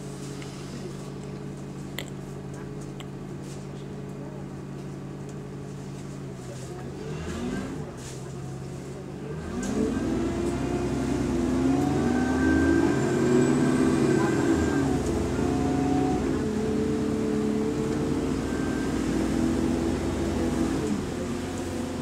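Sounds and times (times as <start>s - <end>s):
bus engine idling and revving: 0.0s - 22.0s.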